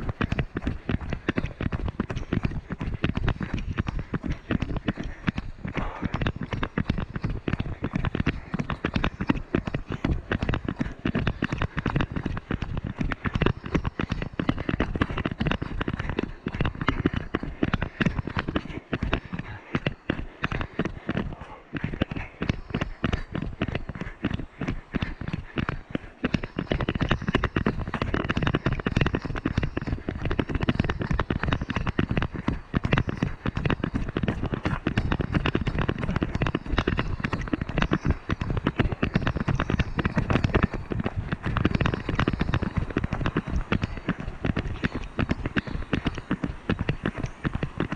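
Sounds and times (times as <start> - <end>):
camera knocking and crackling: 0.0 - 47.9
running footfalls: 0.0 - 47.9.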